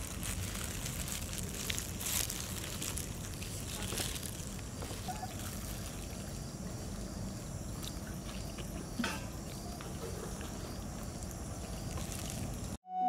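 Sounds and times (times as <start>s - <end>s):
low outdoor rumble: 0.0s - 12.8s.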